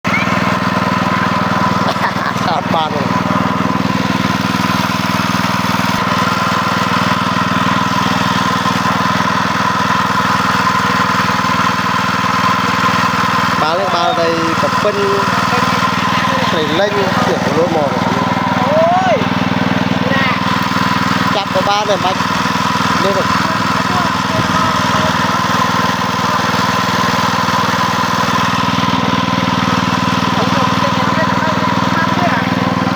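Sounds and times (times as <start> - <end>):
small engine idling: 0.0 - 32.9.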